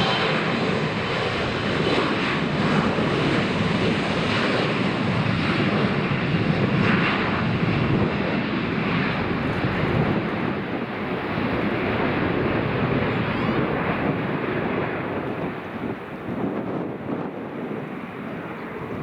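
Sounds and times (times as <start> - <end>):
airliner engines rushing: 0.0 - 19.0.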